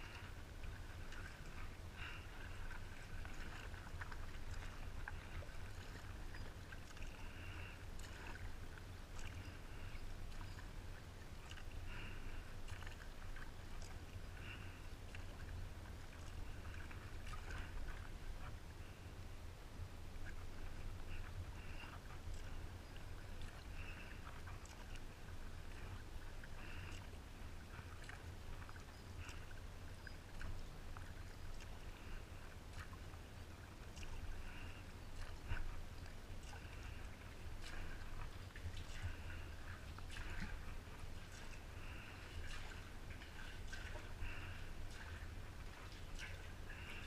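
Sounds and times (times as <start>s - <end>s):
kayak paddle splashing: 0.0s - 19.2s, 20.2s - 47.0s.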